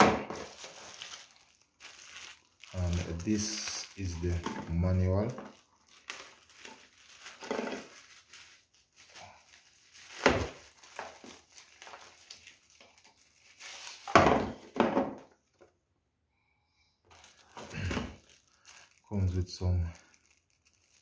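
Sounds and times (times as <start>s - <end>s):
packaging rustling and crinkling: 0.2s - 15.7s, 17.1s - 21.0s.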